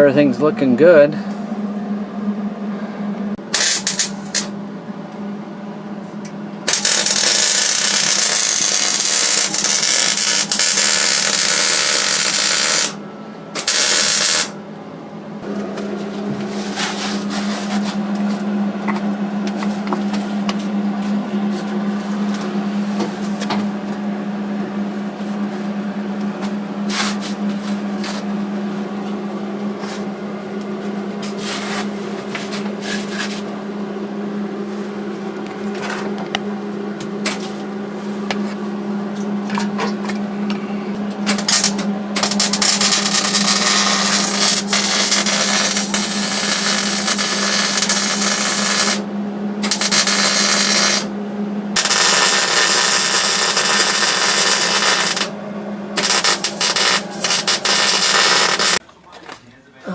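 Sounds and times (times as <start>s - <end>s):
constant hum: 0.0s - 59.9s.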